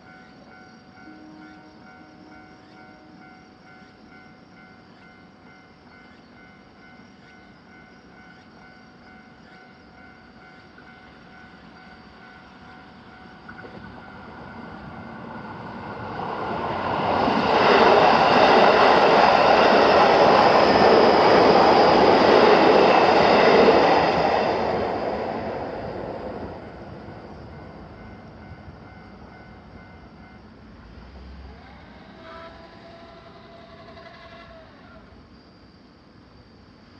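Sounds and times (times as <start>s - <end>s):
crossing warning bell: 0.0s - 31.0s
train wheel and rail rumble: 0.0s - 36.9s.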